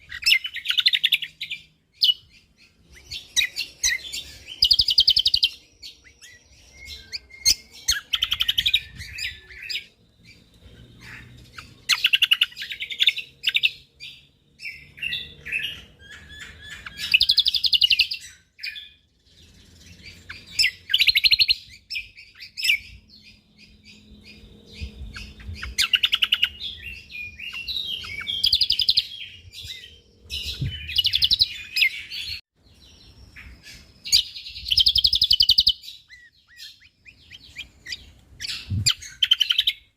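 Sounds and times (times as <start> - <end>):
songbird chattering: 0.0 - 39.9.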